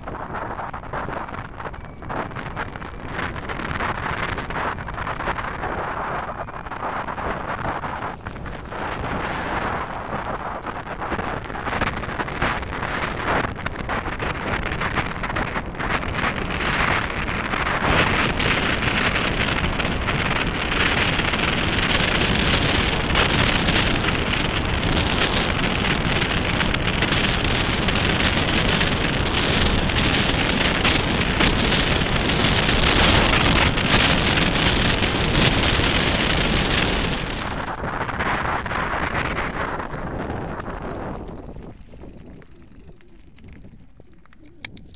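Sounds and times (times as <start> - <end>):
wind noise on microphone: 0.0 - 44.9.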